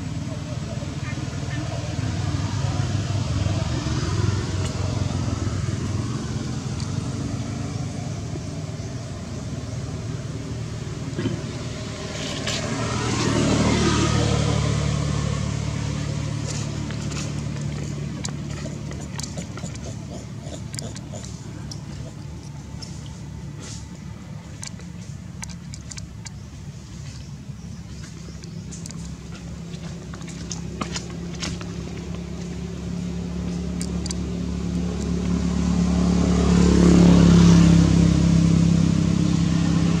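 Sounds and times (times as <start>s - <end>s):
vehicle engine passing by: 0.0s - 40.0s.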